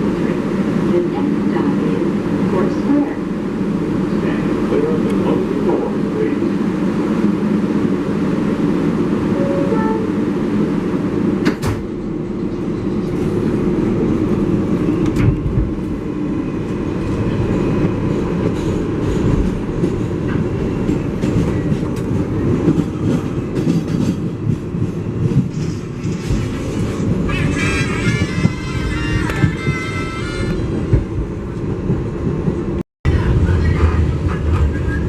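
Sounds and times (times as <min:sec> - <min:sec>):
subway car rumbling: 0:00.0 - 0:35.0.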